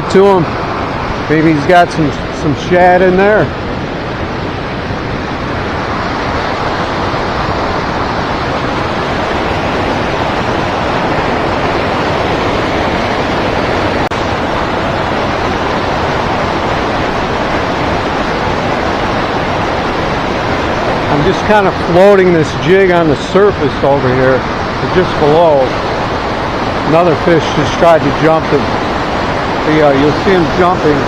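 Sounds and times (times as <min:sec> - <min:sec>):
rushing river water: 0:00.0 - 0:31.0.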